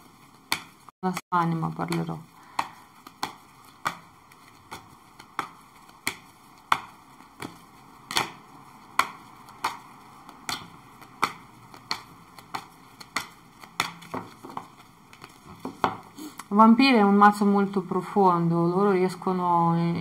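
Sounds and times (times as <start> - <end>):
cards being shuffled: 0.0 - 16.4.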